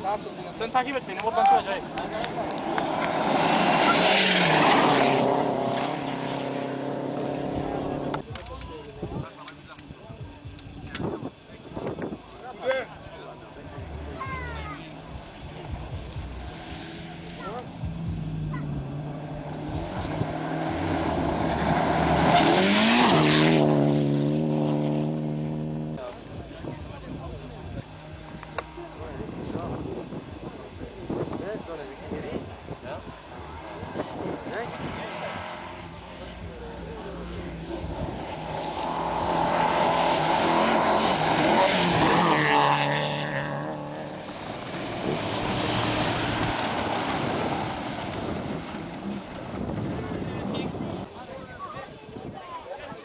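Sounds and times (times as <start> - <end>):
rally car engine revving: 0.0 - 8.6, 13.1 - 51.2.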